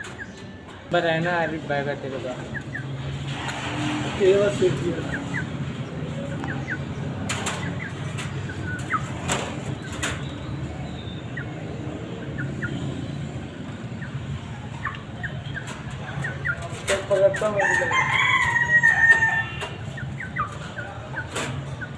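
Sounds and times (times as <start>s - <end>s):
birds chirping: 0.0s - 21.9s.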